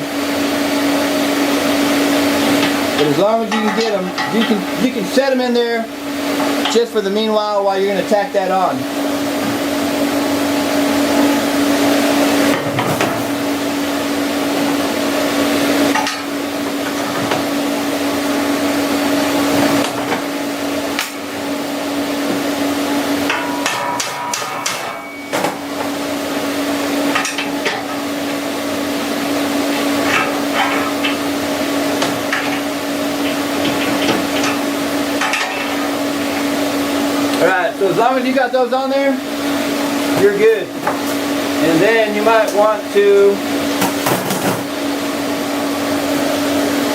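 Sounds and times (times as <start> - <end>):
machine hum: 0.0 - 46.9.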